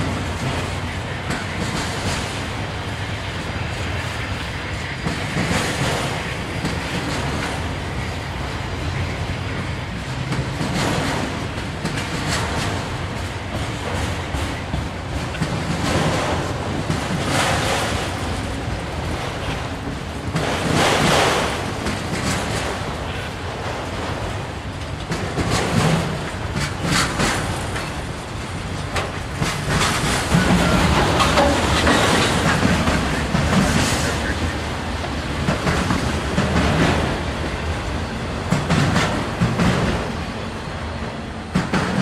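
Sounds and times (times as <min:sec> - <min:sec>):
freight train wheels clacking: 0:00.0 - 0:42.0.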